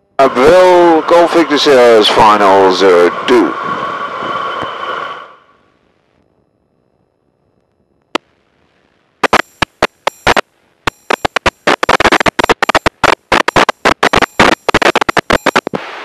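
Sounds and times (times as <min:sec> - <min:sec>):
radio static crackling: 0:00.0 - 0:16.0.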